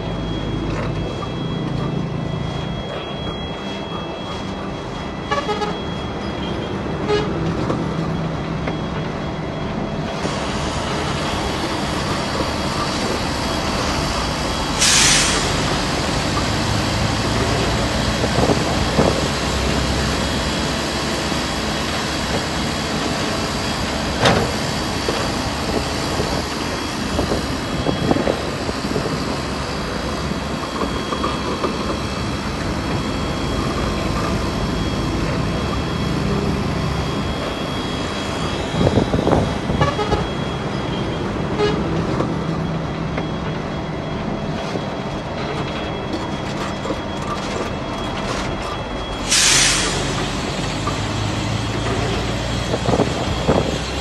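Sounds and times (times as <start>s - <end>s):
heavy machinery diesel engines: 0.0s - 54.0s.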